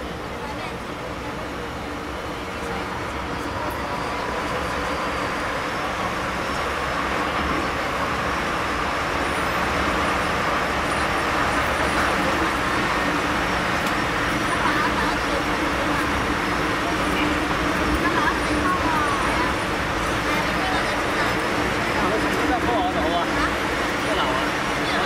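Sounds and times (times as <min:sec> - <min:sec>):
train rumble and hiss: 0:00.0 - 0:25.0.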